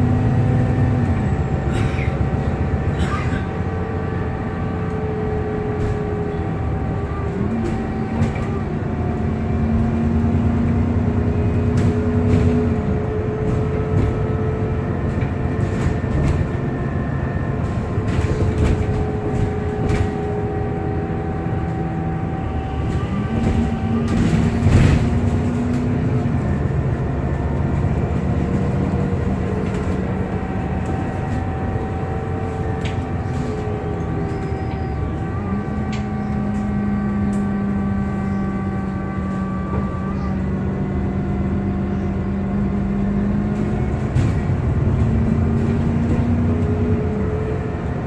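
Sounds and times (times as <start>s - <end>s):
bus driving with whirring whine: 0.0s - 48.0s.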